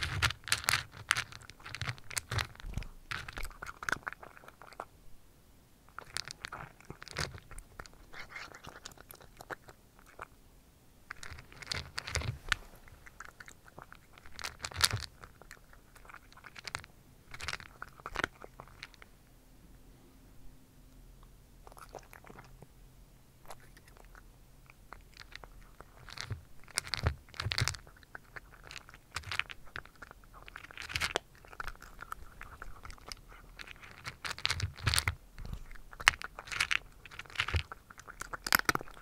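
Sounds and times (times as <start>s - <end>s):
cat crunching dry kibble: 0.0s - 4.9s, 5.9s - 10.3s, 11.1s - 19.1s, 21.6s - 22.7s, 23.4s - 39.0s.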